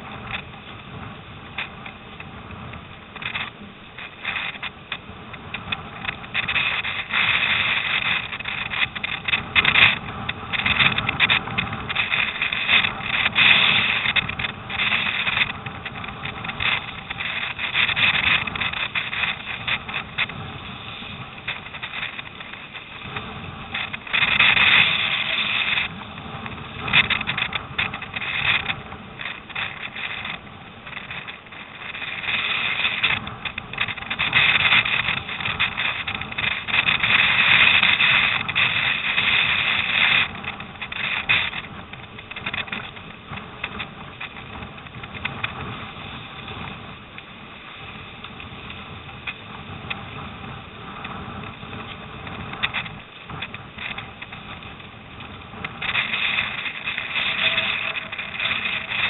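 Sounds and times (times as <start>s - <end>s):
water rushing and splashing: 0.0s - 49.4s, 51.4s - 59.0s
wind buffeting microphone: 0.0s - 59.0s.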